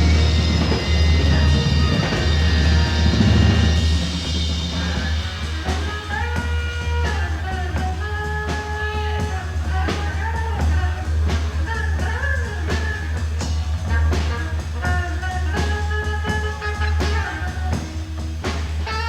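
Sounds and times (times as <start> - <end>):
lead instrument bending notes: 0.0 - 19.0
rock band instrumental jam: 0.0 - 19.0.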